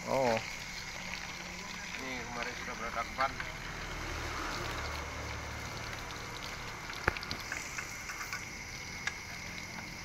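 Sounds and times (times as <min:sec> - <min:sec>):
hose water spraying on radiator: 0:00.0 - 0:10.0.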